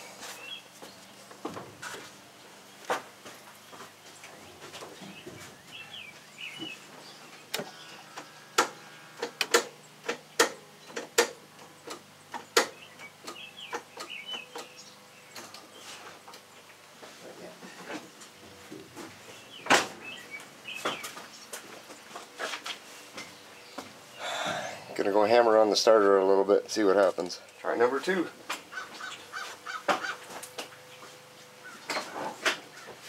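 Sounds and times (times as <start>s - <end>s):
birds chirping: 0.0s - 1.5s, 2.5s - 33.0s.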